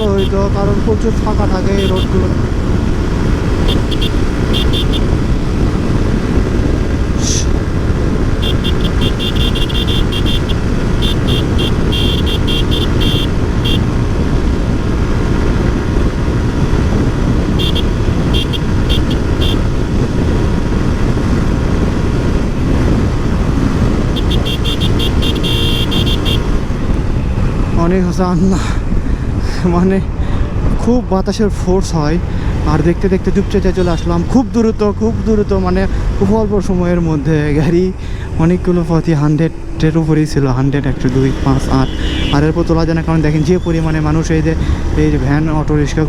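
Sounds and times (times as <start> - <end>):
wind buffeting microphone: 0.0 - 40.0
motorcycle engine and road noise: 0.0 - 46.0.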